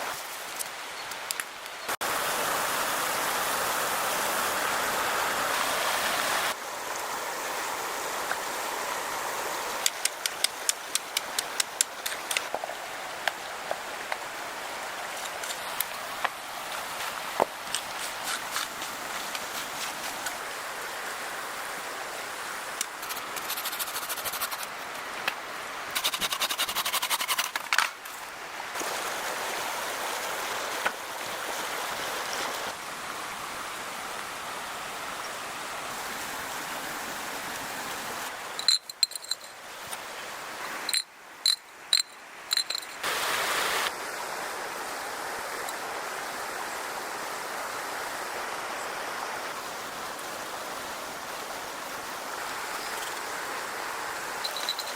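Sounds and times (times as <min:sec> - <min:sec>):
rushing outdoor noise: 0:00.0 - 0:54.9.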